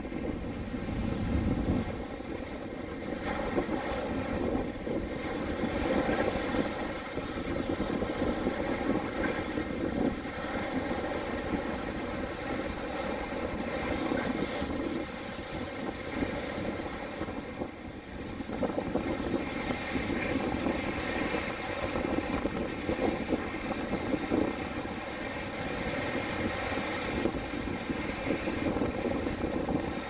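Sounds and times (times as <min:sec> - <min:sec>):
small waves breaking on shore: 0:00.0 - 0:30.0
wind rumble on microphone: 0:00.0 - 0:30.0.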